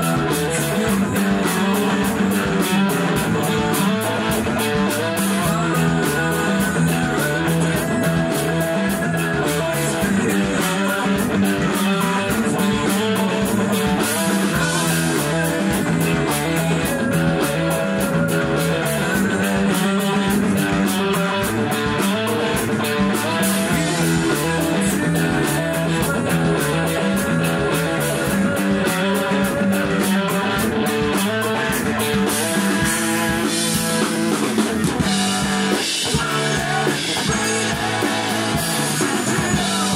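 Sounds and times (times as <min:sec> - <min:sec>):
drum kit beat: 0:00.0 - 0:39.9
electric guitars strumming: 0:00.0 - 0:39.9.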